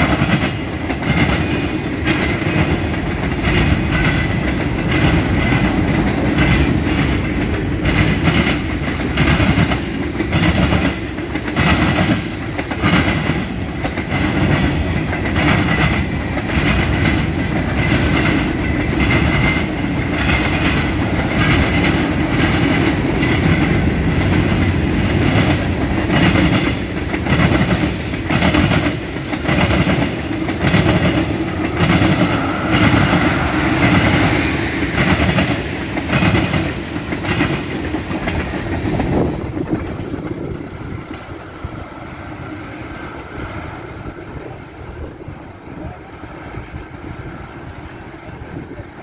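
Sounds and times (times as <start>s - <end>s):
train wheels clacking over rail joints: 0.0s - 44.8s.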